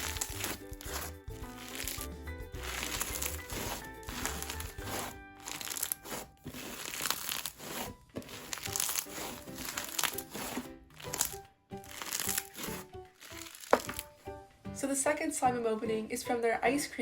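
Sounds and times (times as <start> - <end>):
crinkling crackling handling: 0.0 - 14.2
background music: 0.0 - 17.0.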